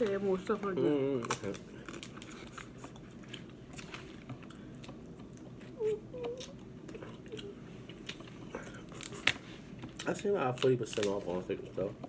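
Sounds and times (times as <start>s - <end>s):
chewing: 1.2s - 11.2s.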